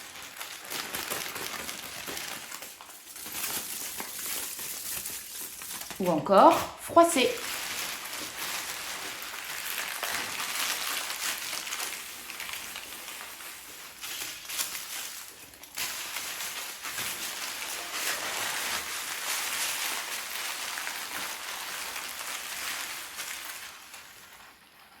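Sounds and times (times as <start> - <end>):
material crumpling crackle: 0.0 - 25.0.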